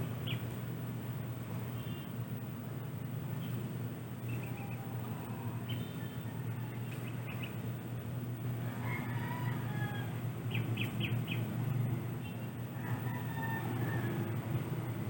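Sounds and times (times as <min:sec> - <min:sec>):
birds chirping: 0:00.0 - 0:00.6, 0:01.5 - 0:02.3, 0:03.2 - 0:08.2, 0:08.9 - 0:14.7
steady low hum: 0:00.0 - 0:15.0.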